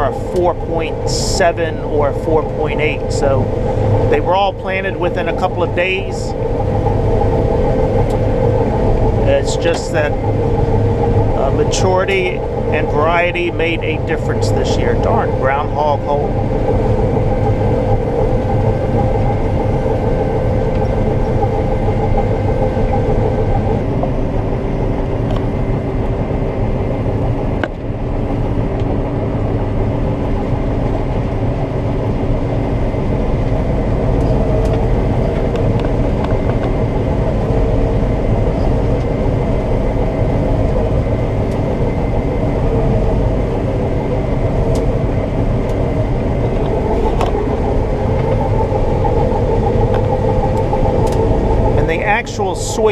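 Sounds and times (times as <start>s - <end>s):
combine harvester droning: 0.0s - 52.9s.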